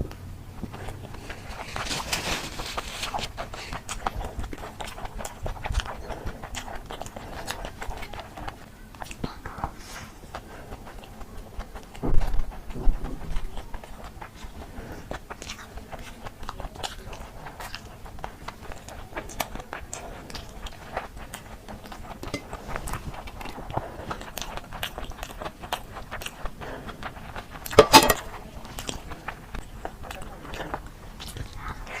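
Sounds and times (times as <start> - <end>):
person chewing and crunching: 0.0 - 32.0.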